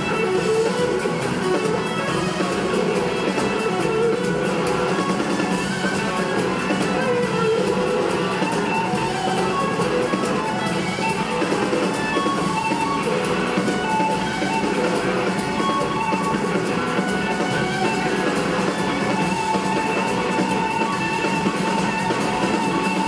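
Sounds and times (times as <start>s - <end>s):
bass guitar: 0.0s - 23.0s
drum kit with cymbals: 0.0s - 23.0s
electric guitar lead: 0.0s - 23.0s
keyboards: 0.0s - 23.0s.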